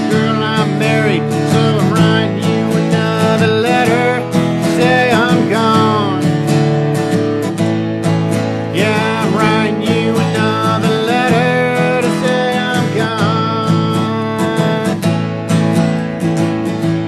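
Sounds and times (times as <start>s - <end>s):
country band playing live: 0.0s - 17.0s
strummed acoustic guitar: 0.0s - 17.0s.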